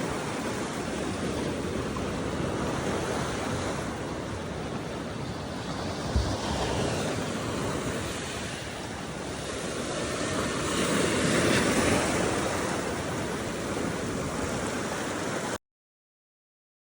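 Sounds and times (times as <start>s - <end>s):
sea waves breaking on shore: 0.0s - 15.6s
wind on microphone: 0.0s - 15.6s.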